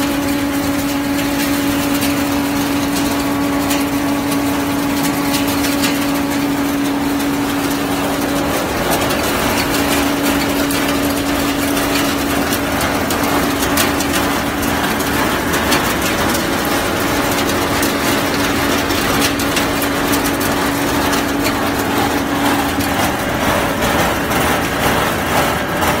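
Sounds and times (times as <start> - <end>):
threshing machine hum: 0.0 - 26.0.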